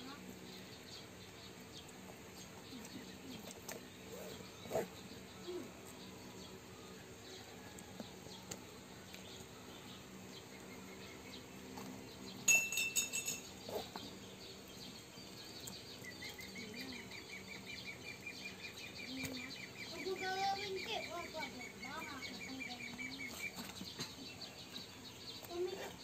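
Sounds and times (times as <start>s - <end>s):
birds chirping: 0.0s - 26.0s
low background noise: 0.0s - 26.0s.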